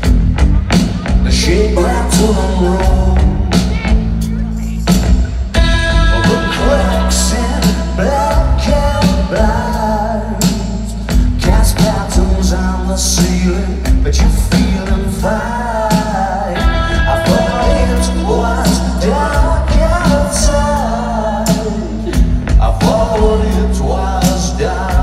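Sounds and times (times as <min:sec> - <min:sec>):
live rock band playing: 0:00.0 - 0:25.0
person singing: 0:00.6 - 0:05.0, 0:05.6 - 0:25.0.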